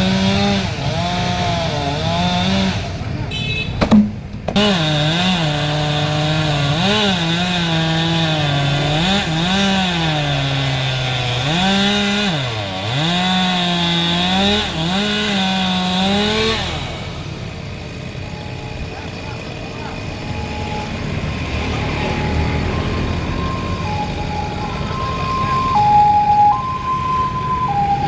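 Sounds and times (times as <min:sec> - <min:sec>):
chainsaw cutting tree trunk: 0:00.0 - 0:03.1, 0:03.8 - 0:28.0.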